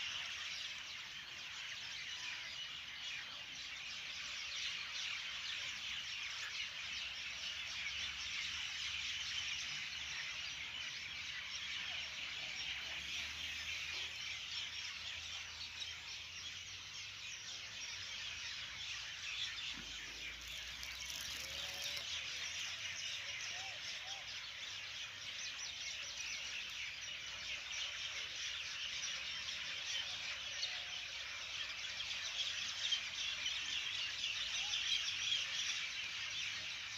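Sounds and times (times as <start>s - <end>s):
chorus of small chirping animals: 0.0s - 36.9s.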